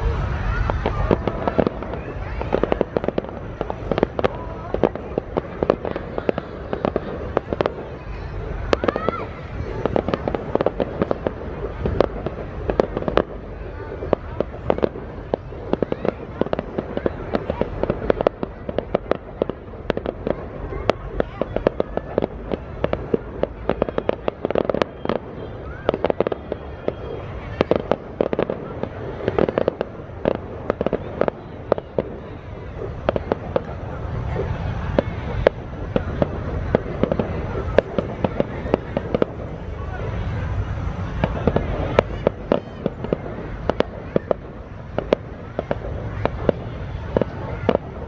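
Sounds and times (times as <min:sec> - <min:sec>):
fireworks cracks and bangs: 0:00.0 - 0:48.0.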